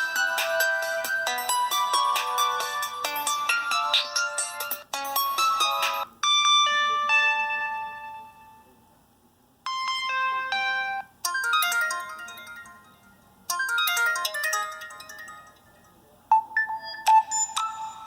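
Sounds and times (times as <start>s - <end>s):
chiming electronic ringtone: 0.0s - 8.7s, 9.7s - 18.0s.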